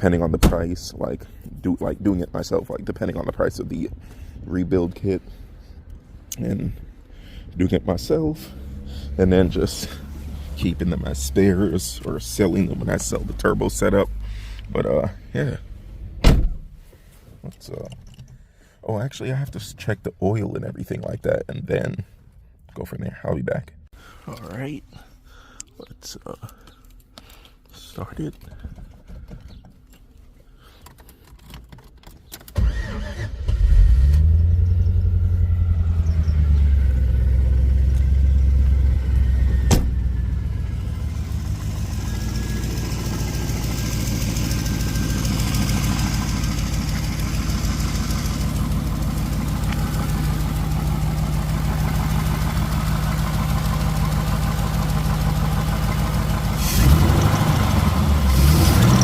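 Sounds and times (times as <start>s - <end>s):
car engine starting and idling: 0.0s - 20.1s, 24.0s - 59.0s.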